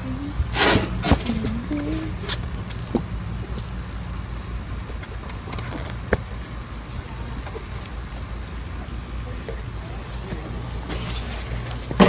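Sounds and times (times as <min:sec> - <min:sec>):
steady low rumble: 0:00.0 - 0:12.0
campfire crackling: 0:00.3 - 0:12.0.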